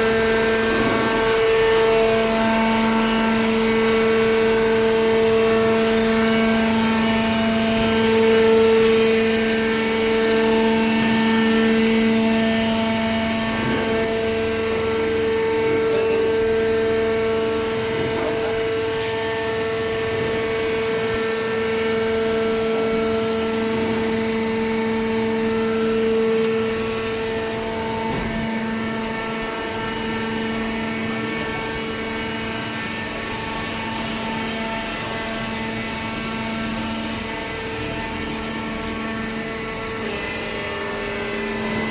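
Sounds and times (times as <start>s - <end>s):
hydraulic motor and pump humming: 0.0s - 41.9s.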